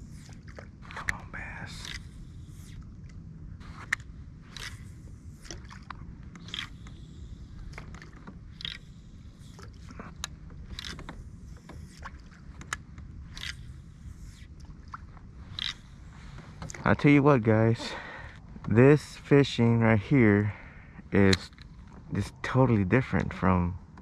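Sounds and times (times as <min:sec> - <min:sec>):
water swishing: 0:00.0 - 0:20.3
low rumble: 0:00.0 - 0:24.0.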